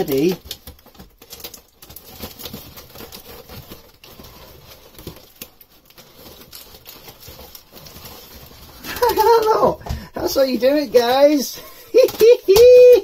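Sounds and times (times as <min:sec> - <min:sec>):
aluminium tape crinkling: 0:00.0 - 0:13.0.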